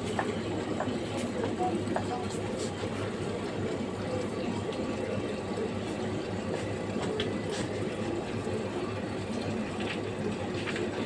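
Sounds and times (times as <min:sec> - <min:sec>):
pump humming: 0:00.0 - 0:11.0.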